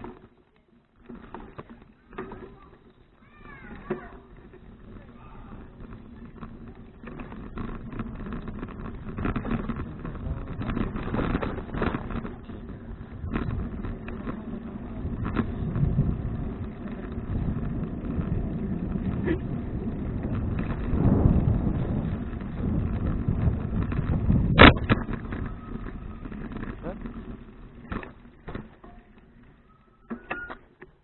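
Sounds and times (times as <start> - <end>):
bicycle road and wind noise: 0.0 - 31.0.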